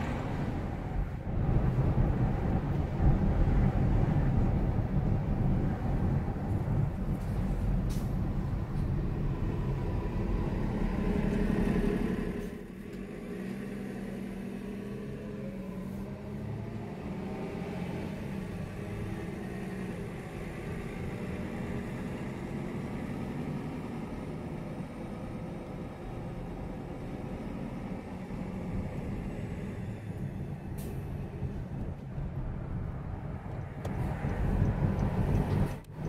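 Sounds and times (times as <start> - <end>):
bus engine running: 0.0 - 36.0
car engine and tyre rumble: 0.0 - 36.0.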